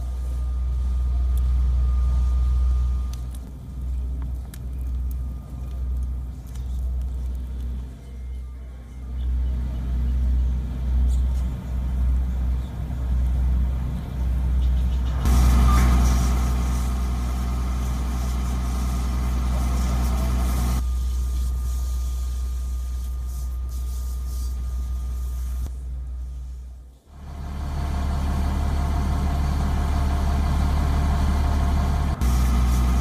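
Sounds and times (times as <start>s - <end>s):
deep engine-like rumble: 0.0s - 33.0s
low hum: 0.0s - 33.0s.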